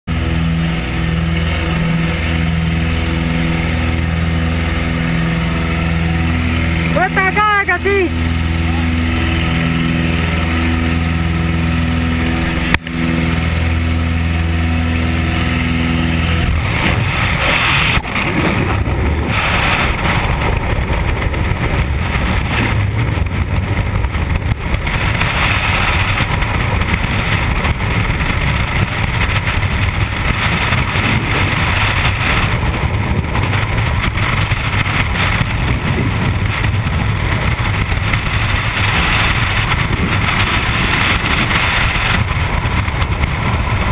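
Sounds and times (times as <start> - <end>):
propeller engine droning: 0.0 - 43.9
wind buffeting microphone: 0.1 - 43.9.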